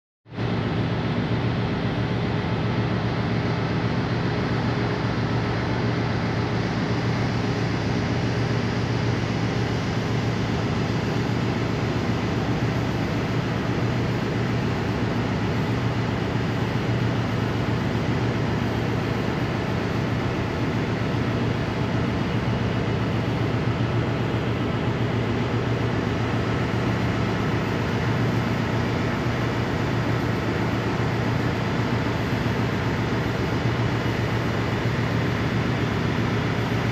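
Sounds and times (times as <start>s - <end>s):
engine drone: 0.3s - 36.9s.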